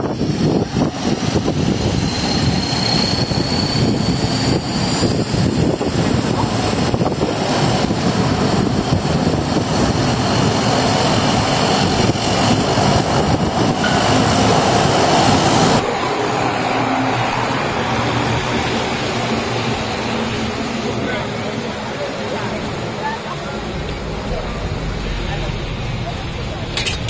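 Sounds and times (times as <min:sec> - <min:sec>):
aircraft engine running: 0:00.0 - 0:27.0.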